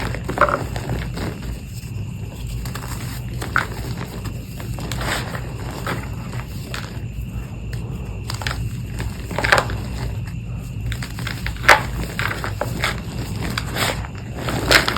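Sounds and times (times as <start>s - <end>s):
chalk crunching and snapping: 0.0s - 14.9s
steady low hum: 0.0s - 14.9s.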